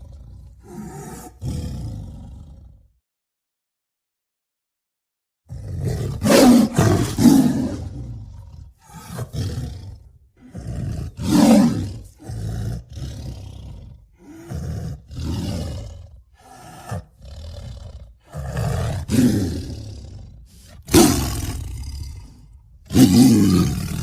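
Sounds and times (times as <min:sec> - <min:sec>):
tiger roaring and growling: 0:00.0 - 0:02.9, 0:05.5 - 0:24.0.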